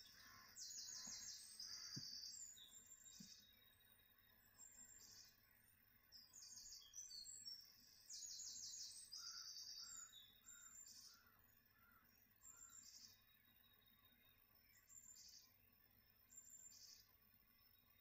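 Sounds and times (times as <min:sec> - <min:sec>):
songbird chirping and trilling: 0:00.0 - 0:18.0.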